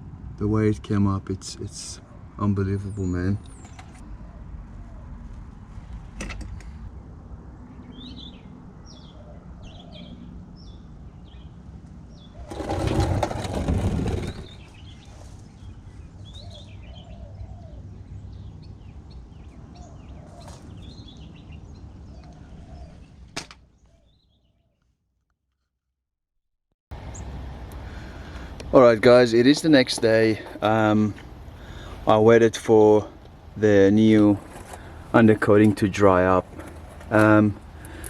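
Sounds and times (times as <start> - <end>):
small birds chirping: 1.5 - 5.4, 7.6 - 12.6, 14.0 - 25.0, 27.0 - 38.0.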